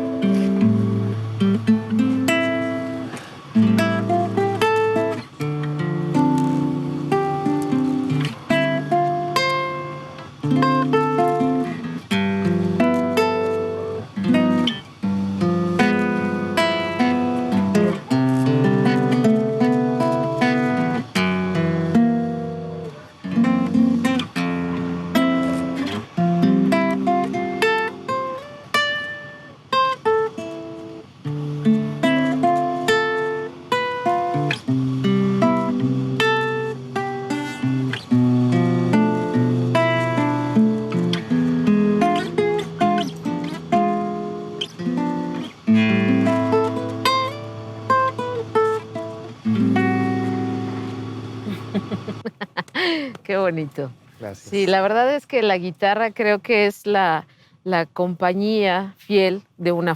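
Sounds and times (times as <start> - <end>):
acoustic guitar playing: 0.0 - 59.9.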